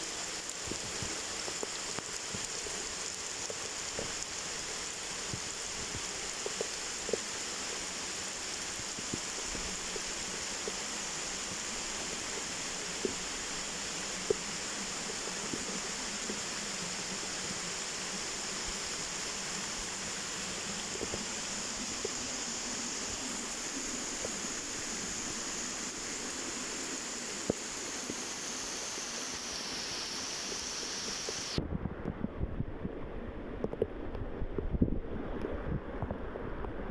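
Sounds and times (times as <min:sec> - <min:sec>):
waterfall rushing water: 0:00.0 - 0:31.6
faint splashing ticks: 0:00.4 - 0:31.6.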